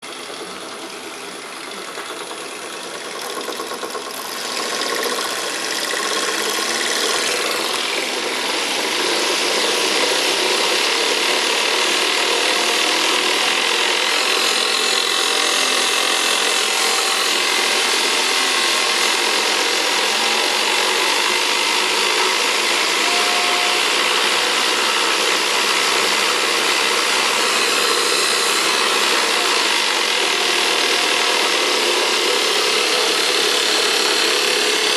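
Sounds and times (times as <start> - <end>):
milling machine cutting: 0.0 - 34.9.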